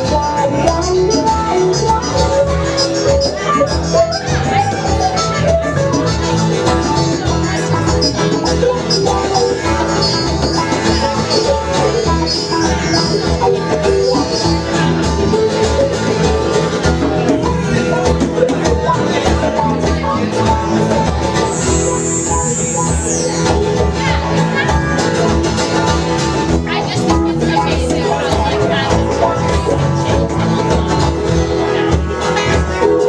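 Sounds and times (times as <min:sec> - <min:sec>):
live band instrumental: 0:00.0 - 0:33.0.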